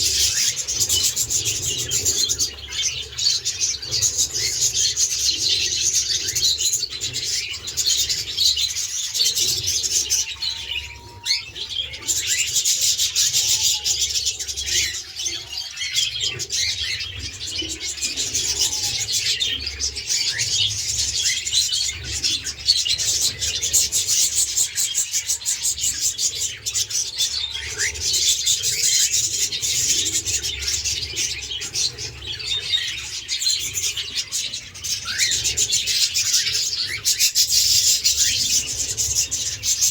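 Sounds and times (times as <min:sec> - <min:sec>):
parakeets chattering and chirping: 0:00.0 - 0:39.9.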